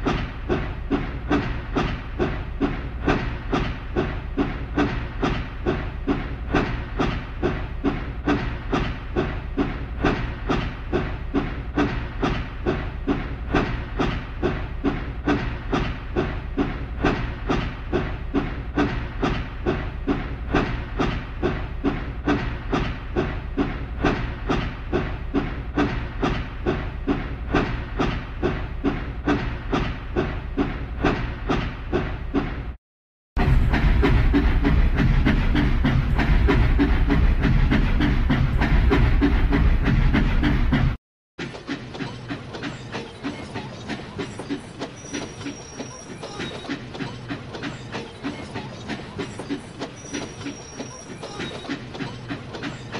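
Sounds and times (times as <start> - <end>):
steam locomotive chuffing: 0.0 - 32.8, 33.4 - 52.9.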